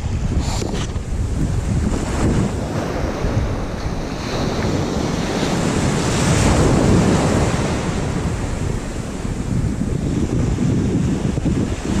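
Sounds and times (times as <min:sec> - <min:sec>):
ocean surf washing in: 0:00.0 - 0:12.0
wind buffeting microphone: 0:00.0 - 0:12.0.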